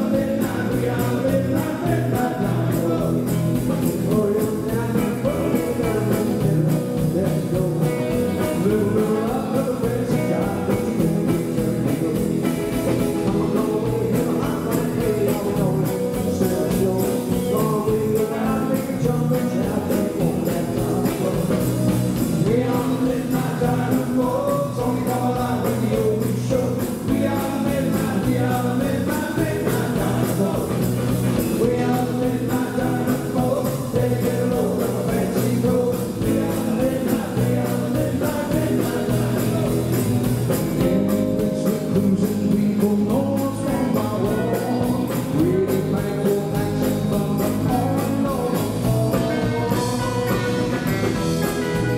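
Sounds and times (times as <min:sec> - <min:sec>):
man singing: 0:00.0 - 0:51.9
rockabilly band playing: 0:00.0 - 0:51.9.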